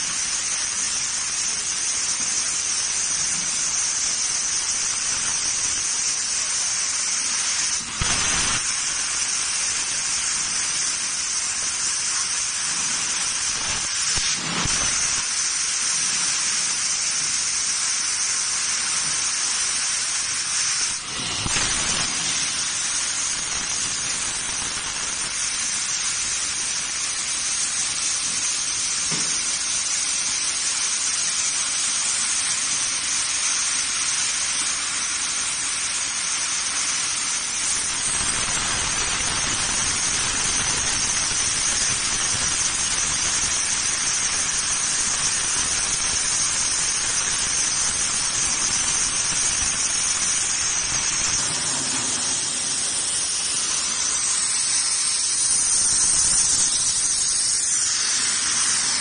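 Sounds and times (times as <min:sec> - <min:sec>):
laser cutter gas jet hissing: 0:00.0 - 0:59.0.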